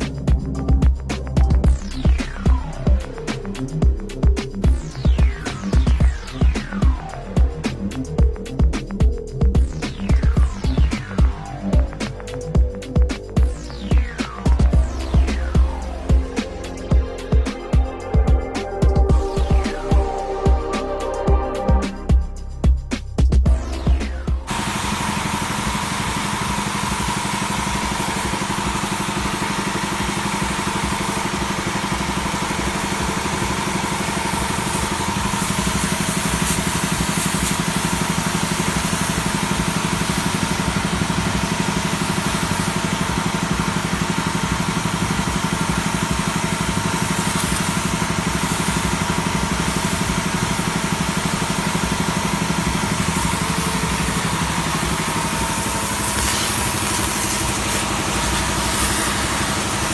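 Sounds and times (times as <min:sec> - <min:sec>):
pressure washer running: 0:00.0 - 0:59.9.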